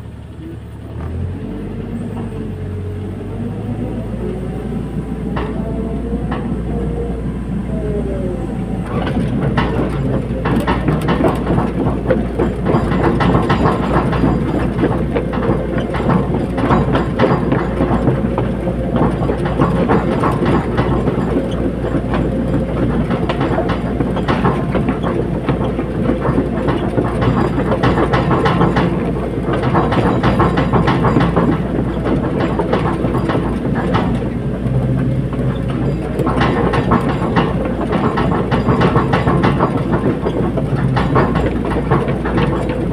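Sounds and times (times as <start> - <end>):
excavator diesel engine: 0.0 - 42.9
metallic clanking: 3.5 - 7.6, 8.6 - 42.9.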